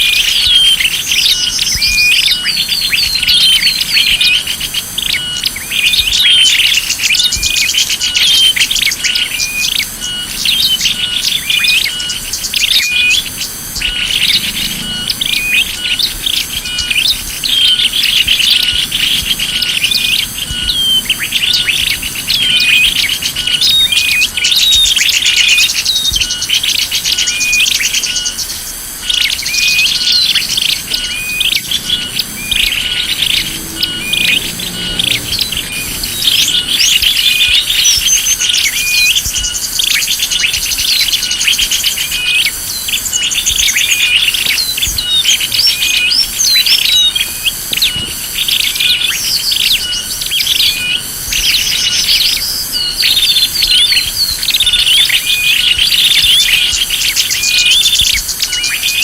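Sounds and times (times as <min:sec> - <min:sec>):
small songbirds chirping: 0:00.0 - 0:59.0.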